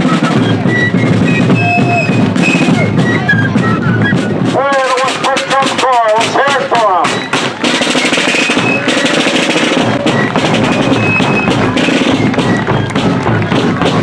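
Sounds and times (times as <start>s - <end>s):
bass drum beats: 0.0s - 14.0s
snare drumming: 0.0s - 14.0s.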